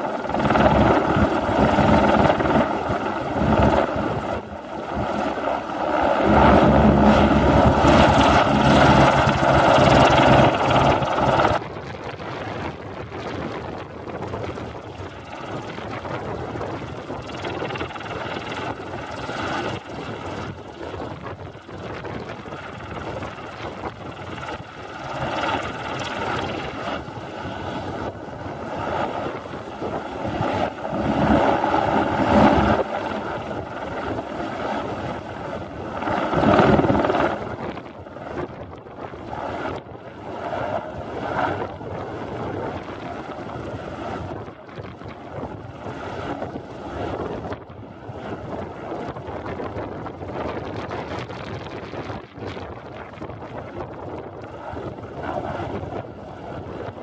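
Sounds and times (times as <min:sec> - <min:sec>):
helicopter turbine and rotors: 0:00.0 - 0:57.0
wind gusts on microphone: 0:00.0 - 0:57.0.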